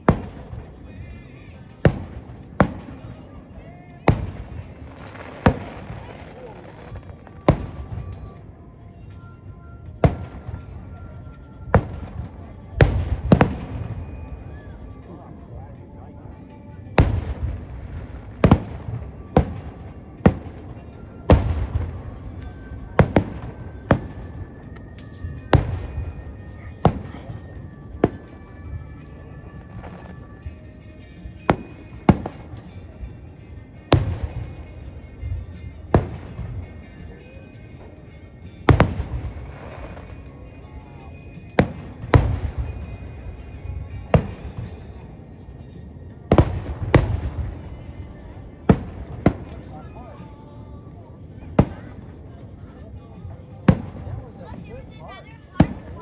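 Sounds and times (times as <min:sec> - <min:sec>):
fireworks bursting with booms: 0:00.0 - 0:52.6, 0:53.2 - 0:56.0
rolling echo: 0:00.0 - 0:56.0.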